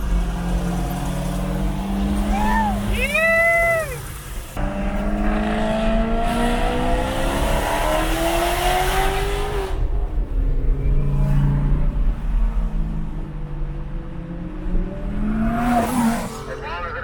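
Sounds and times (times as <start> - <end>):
sports car engine accelerating: 0.0 - 3.9, 4.5 - 17.0.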